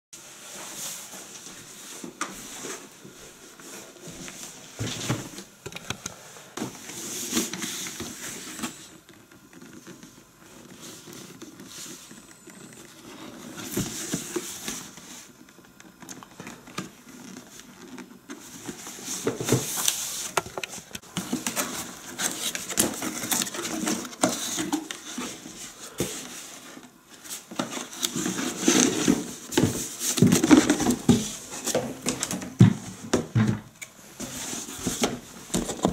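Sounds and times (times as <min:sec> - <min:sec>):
handling rustling and scraping: 0:00.2 - 0:35.9.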